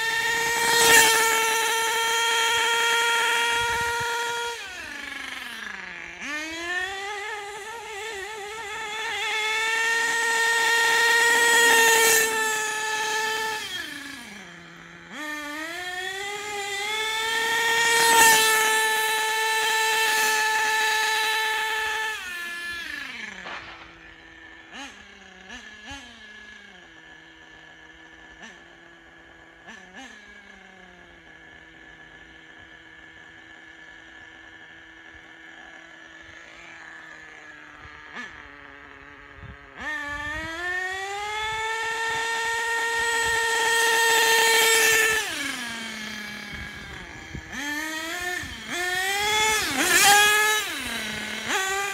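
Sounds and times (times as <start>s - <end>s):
small rc engine revving: 0.0s - 51.9s.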